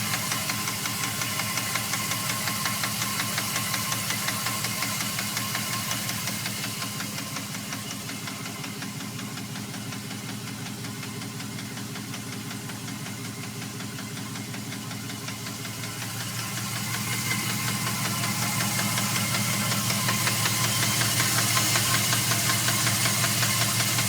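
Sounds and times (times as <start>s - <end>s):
engine idling with fast knocking: 0.0s - 24.0s.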